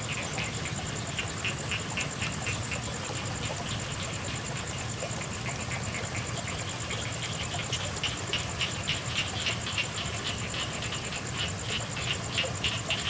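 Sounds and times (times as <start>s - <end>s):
frogs croaking: 0.0s - 13.0s
rain hiss: 0.0s - 13.0s.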